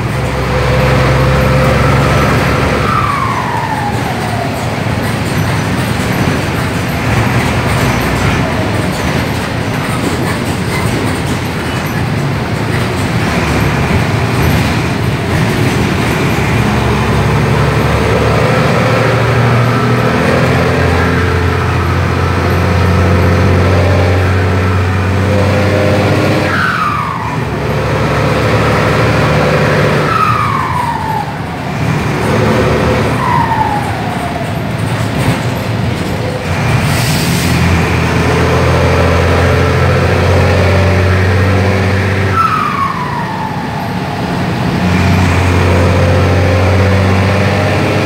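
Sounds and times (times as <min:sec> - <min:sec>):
diesel bus engine running: 0:00.0 - 0:48.0.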